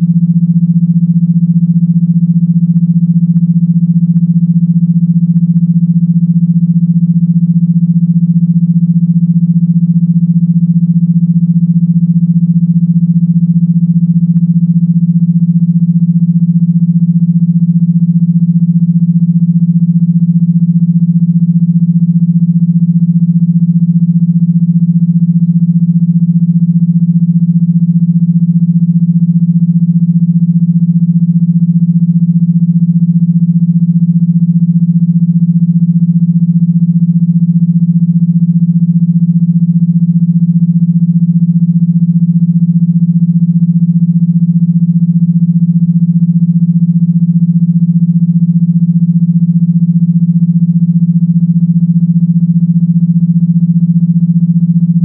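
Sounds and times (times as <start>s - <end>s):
low electronic buzzing tone: 0.0s - 55.0s.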